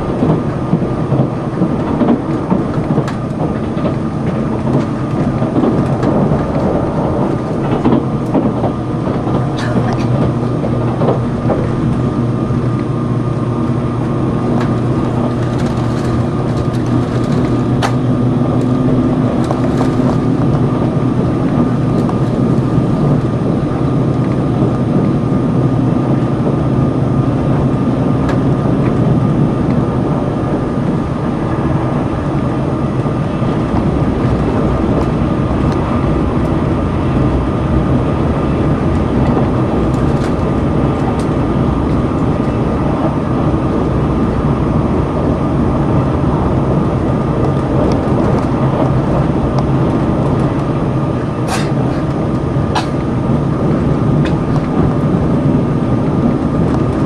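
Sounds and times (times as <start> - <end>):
train rumble and hum: 0.0 - 57.0.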